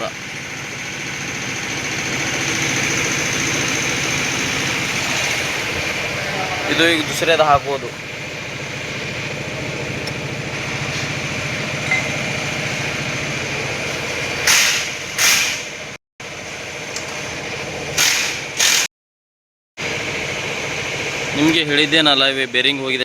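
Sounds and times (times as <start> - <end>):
workshop machine hum: 0.0 - 18.9, 19.8 - 23.0.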